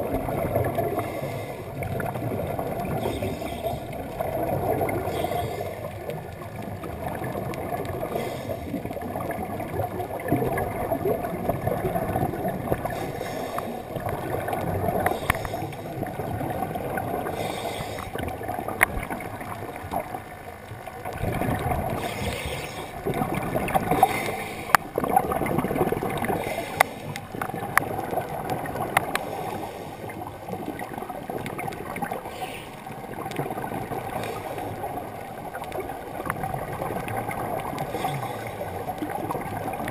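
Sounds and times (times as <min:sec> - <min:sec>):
underwater air bubbles gurgling: 0:00.0 - 0:39.9.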